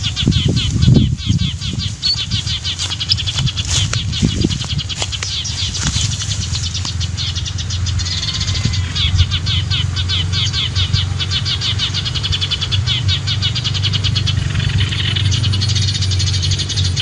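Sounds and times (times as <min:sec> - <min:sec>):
small birds chirping rapidly: 0:00.0 - 0:17.0.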